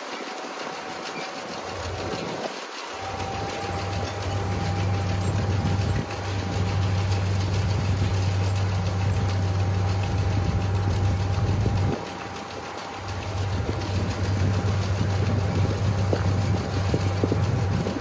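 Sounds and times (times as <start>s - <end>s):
tractor engine running: 0.1s - 18.0s.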